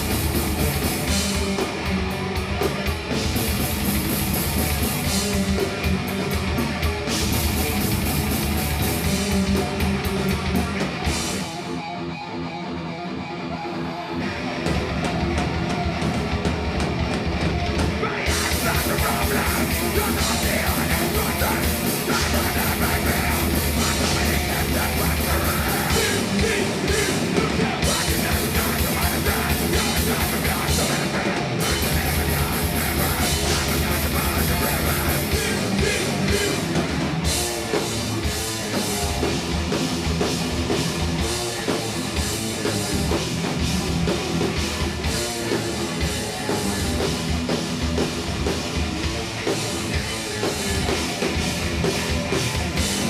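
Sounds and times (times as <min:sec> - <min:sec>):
drum kit: 0:00.0 - 0:12.0, 0:14.2 - 0:53.0
bass guitar: 0:00.0 - 0:53.0
distorted electric guitars: 0:00.0 - 0:53.0.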